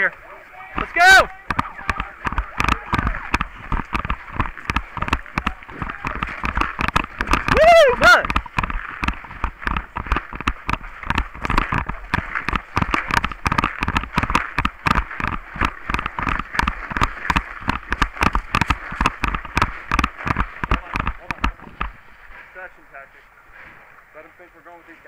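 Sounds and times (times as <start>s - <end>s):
constant hiss: 0.0s - 25.0s
paintball markers firing: 0.7s - 22.0s.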